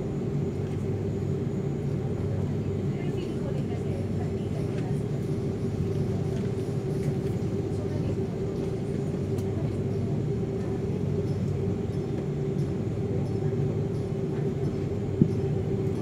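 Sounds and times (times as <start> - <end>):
airliner engines droning: 0.0 - 16.0.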